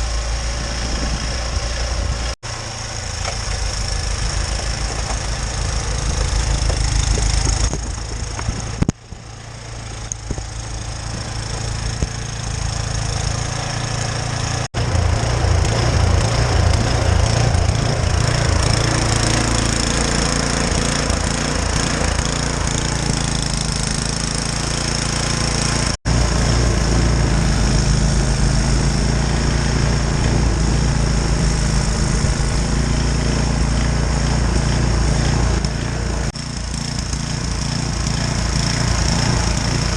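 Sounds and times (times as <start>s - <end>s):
snow blower motor running: 0.0s - 39.9s.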